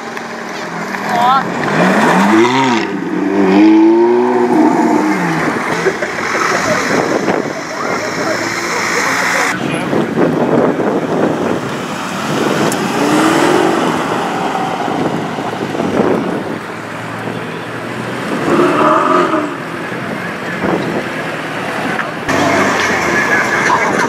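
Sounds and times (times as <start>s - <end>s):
car engines passing: 0.0s - 24.0s.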